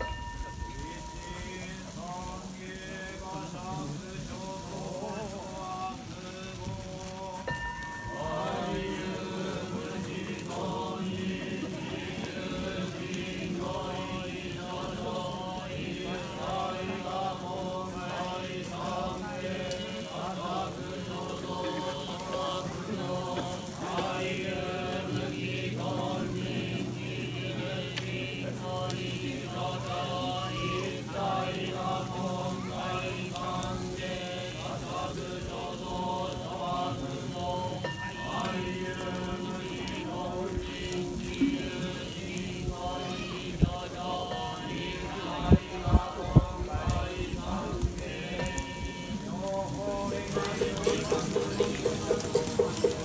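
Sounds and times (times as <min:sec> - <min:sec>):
fire crackling and hissing: 0:00.0 - 0:53.0
men chanting in unison: 0:00.7 - 0:53.0.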